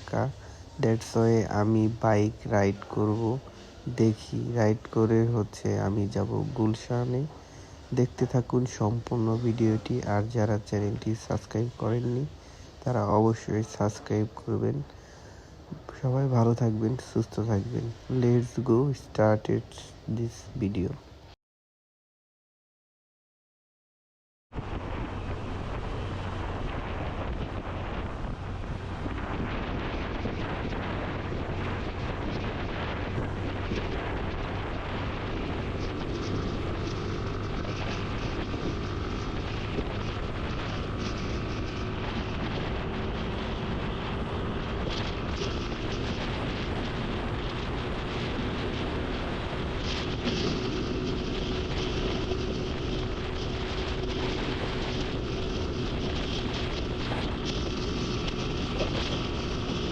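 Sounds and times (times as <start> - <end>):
motorcycle engine hum: 0.0 - 21.3, 24.6 - 59.9
wind and road noise: 0.0 - 21.4, 24.5 - 59.9.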